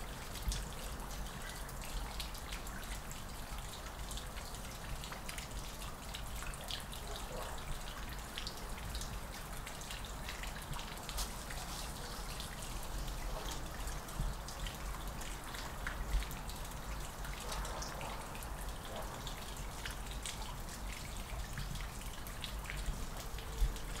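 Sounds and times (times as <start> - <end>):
water dripping: 0.0 - 24.0.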